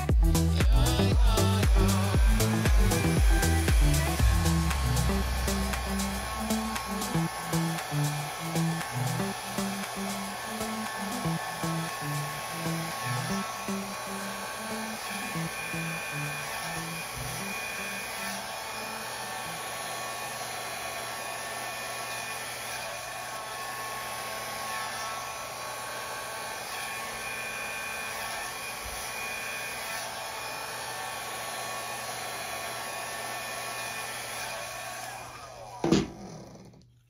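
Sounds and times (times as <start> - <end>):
hair dryer running: 0.0 - 36.8.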